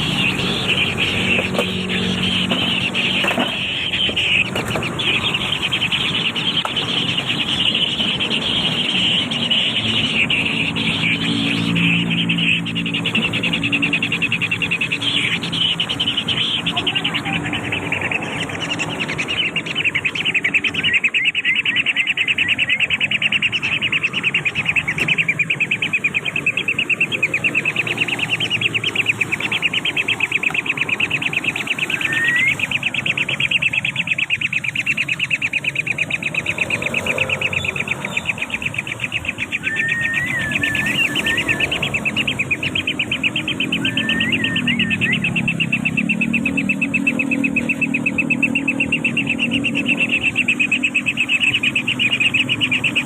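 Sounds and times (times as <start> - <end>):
rising bird chirp: 0.0 - 53.0.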